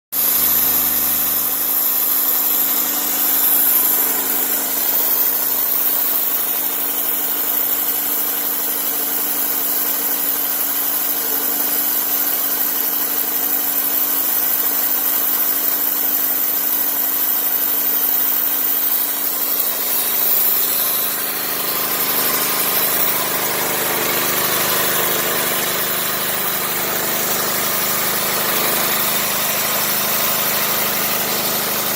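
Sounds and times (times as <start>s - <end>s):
sawmill machinery drone: 0.2s - 31.9s.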